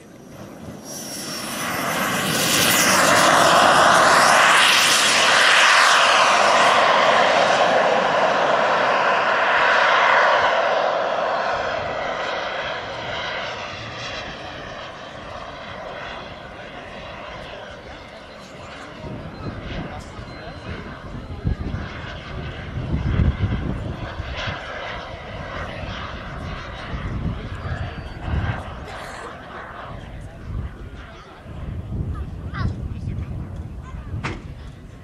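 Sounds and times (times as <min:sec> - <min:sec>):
jet engine roar with whine: 0:00.0 - 0:35.0.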